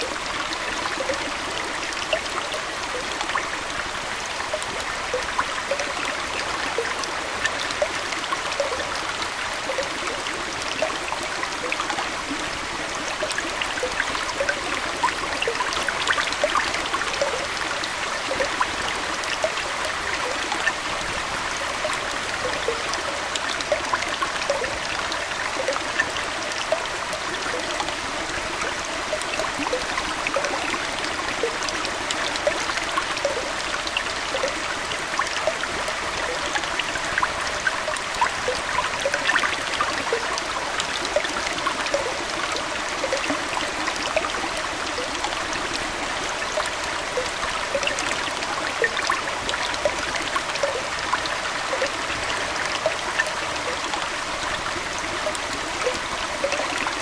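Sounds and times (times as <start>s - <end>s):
aquarium water trickling: 0.0s - 57.0s
bubbly plinks: 0.0s - 57.0s.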